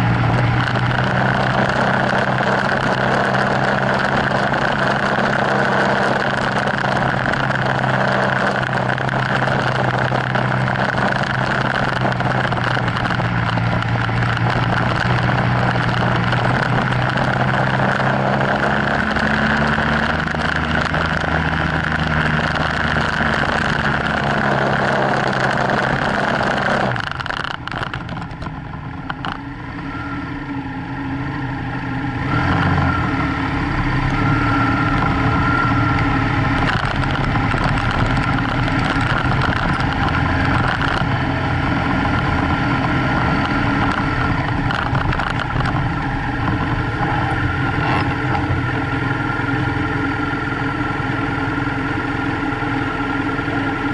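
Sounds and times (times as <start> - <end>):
wind noise: 0.0 - 30.1, 32.1 - 49.3
motorcycle engine running: 0.0 - 53.9.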